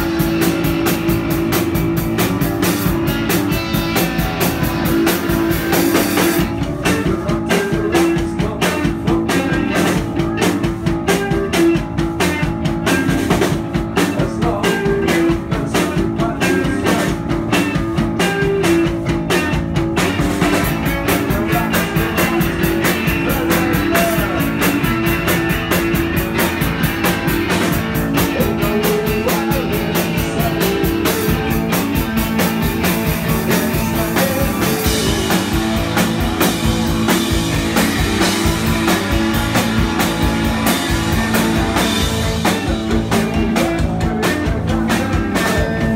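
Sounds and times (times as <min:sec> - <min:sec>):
rock band playing loud: 0:00.0 - 0:45.9.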